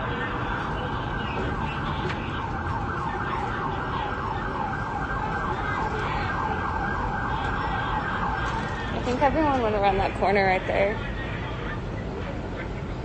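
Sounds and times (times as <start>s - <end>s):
emergency siren yelping: 0.0s - 12.2s
low street rumble: 0.0s - 13.0s.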